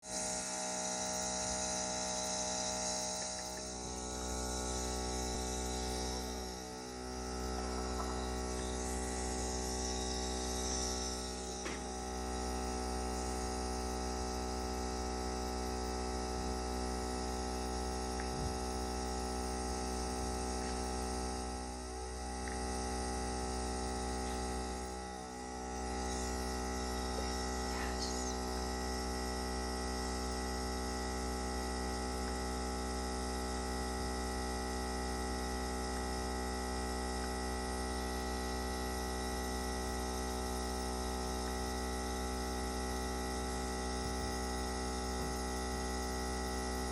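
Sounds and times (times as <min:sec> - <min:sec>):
nebulizer compressor humming: 0:00.0 - 0:46.9.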